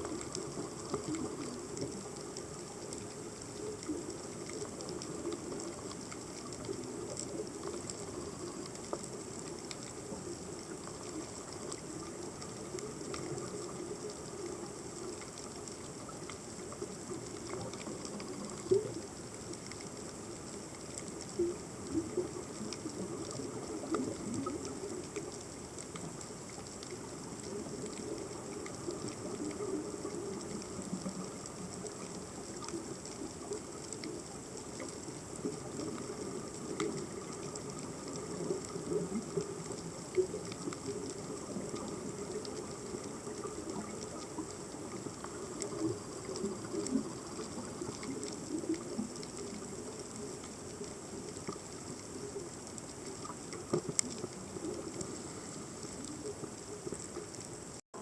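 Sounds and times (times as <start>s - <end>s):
faint clicks: 0.0s - 58.0s
underwater burbling water: 0.0s - 58.0s.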